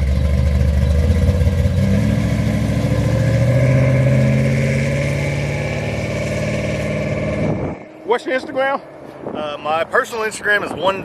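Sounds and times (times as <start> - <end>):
car engine accelerating: 0.0 - 10.2.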